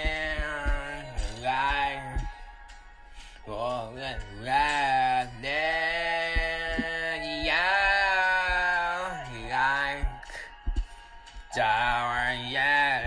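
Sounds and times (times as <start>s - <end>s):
song from laptop speakers: 0.0s - 13.0s.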